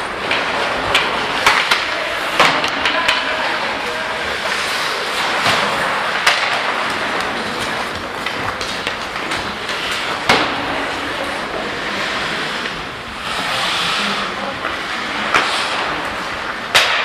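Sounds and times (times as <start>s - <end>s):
arena crowd noise: 0.0s - 17.0s
skates scraping on ice: 0.0s - 17.0s.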